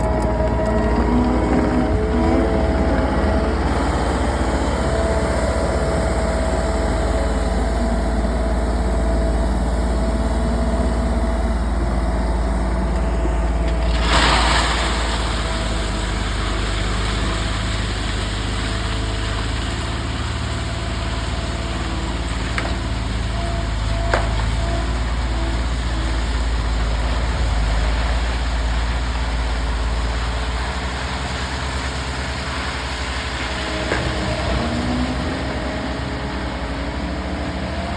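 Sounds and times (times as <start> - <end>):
vehicle engine rumbling: 0.0 - 37.9.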